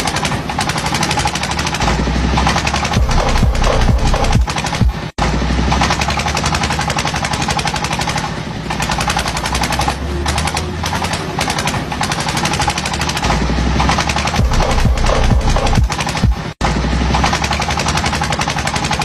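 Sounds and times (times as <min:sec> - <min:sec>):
harvester engine hum: 0:00.0 - 0:19.0
machinery rattling: 0:00.0 - 0:19.0.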